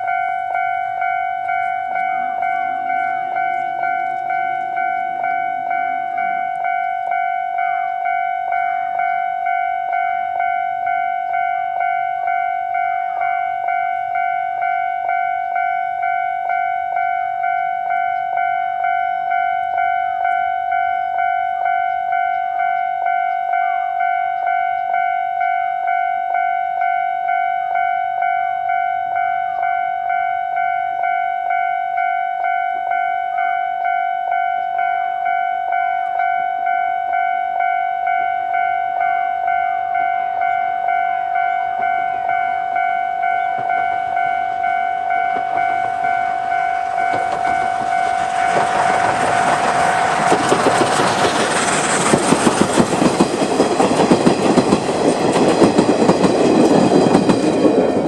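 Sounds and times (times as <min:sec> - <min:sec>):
level-crossing bell ringing: 0:00.0 - 0:58.0.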